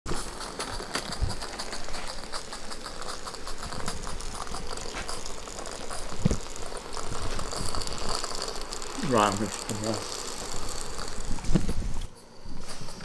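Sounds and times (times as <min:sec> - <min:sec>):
faint hiss: 0:00.1 - 0:13.0.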